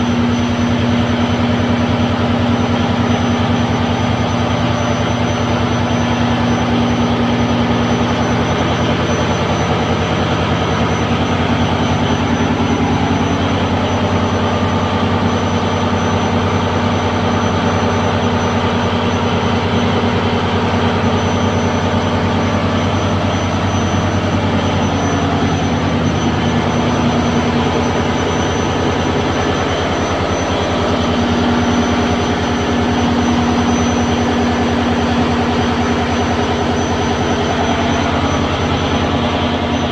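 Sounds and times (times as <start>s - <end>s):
boat engine running steadily: 0.0s - 39.9s.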